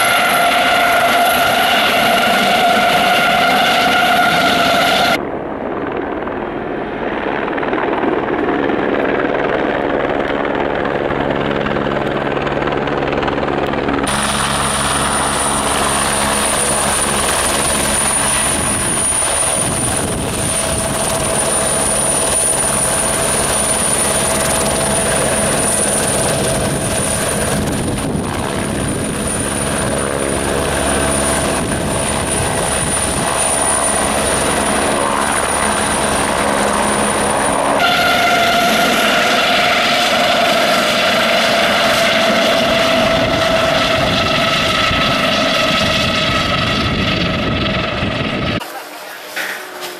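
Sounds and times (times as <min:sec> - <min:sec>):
helicopter rotor beat: 0:00.0 - 0:49.7
high turbine whine: 0:00.0 - 0:49.9.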